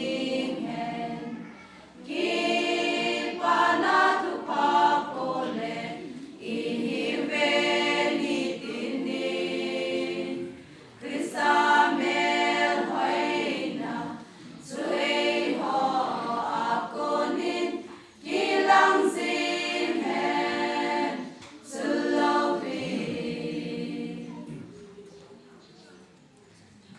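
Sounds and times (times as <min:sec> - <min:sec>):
women's choir singing a hymn: 0:00.0 - 0:24.7.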